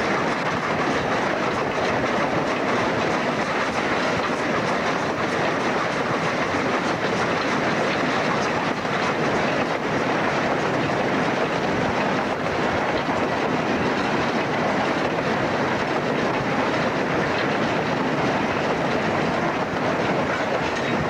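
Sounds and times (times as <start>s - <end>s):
steam locomotive running: 0.0s - 21.0s.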